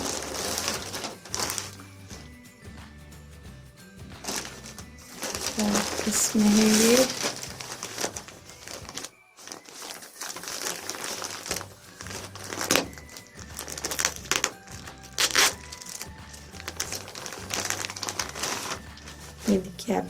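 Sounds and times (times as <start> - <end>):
packaging crinkling: 0.0 - 2.3, 4.2 - 19.8.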